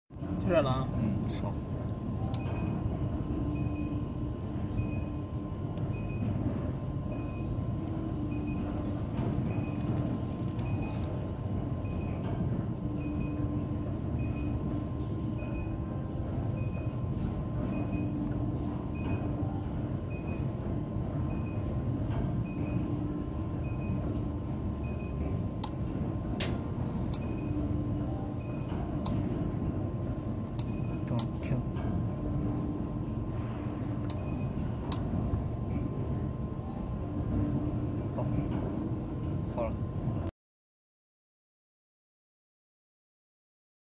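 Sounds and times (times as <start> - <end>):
welding machine hum and rumble: 0.1 - 40.3.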